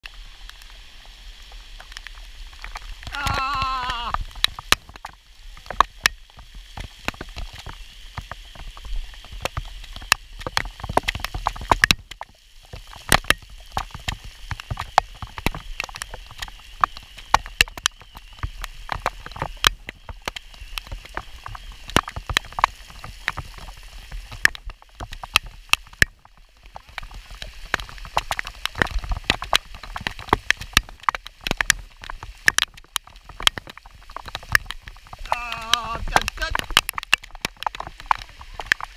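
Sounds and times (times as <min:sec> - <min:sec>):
rain hissing on wet road: 0:00.0 - 0:38.9
raindrops hitting camera housing: 0:00.0 - 0:38.9.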